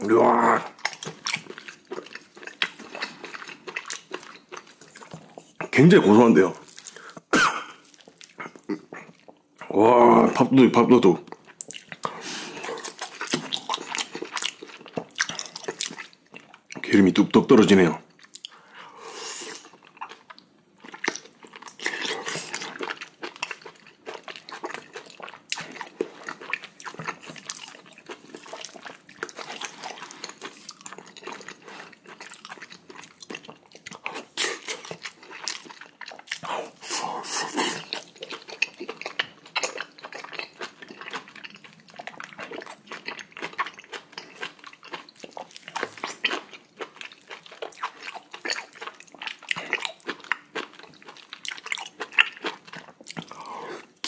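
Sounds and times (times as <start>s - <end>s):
chewing with wet mouth smacks: 0.7s - 5.7s, 6.6s - 9.6s, 11.3s - 16.9s, 18.1s - 18.7s, 19.6s - 54.0s.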